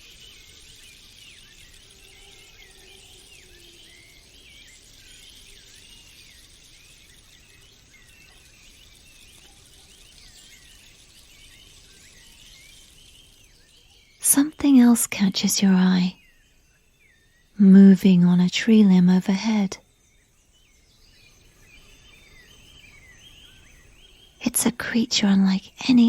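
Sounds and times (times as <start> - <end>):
high insect hiss: 0.0 - 26.0
small birds chirping: 0.0 - 26.0.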